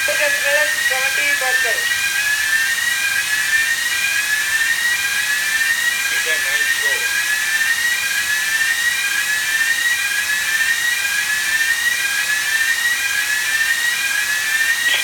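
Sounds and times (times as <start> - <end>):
air blower rushing with whine: 0.0 - 15.0.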